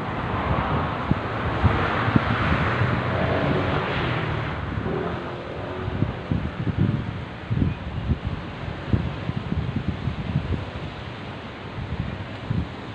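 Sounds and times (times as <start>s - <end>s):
broad rushing noise: 0.0s - 12.9s
wind buffeting microphone: 0.0s - 12.9s.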